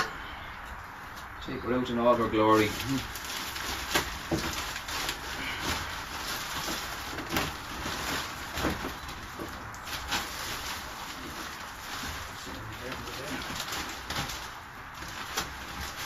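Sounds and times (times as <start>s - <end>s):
plastic wrapping rustling: 0.0s - 16.0s.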